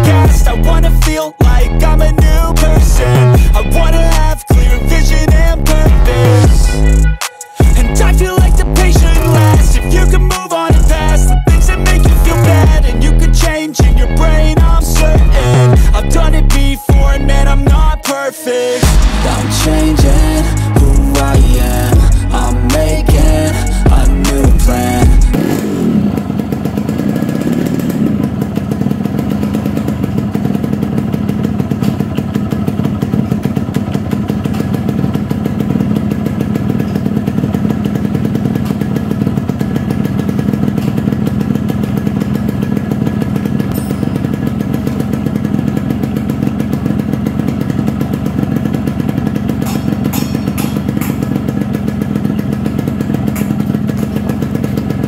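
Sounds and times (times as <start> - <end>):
motorcycle engine idling: 0.0 - 18.2, 18.8 - 55.0.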